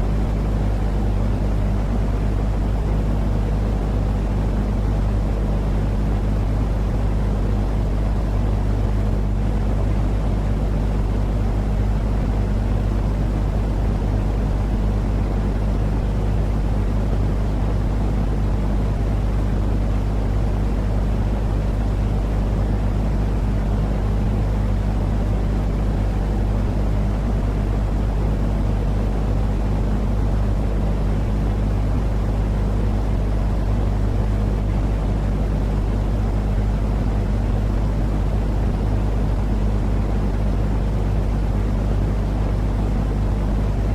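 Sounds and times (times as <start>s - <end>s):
low rumbling white noise: 0.0s - 43.9s.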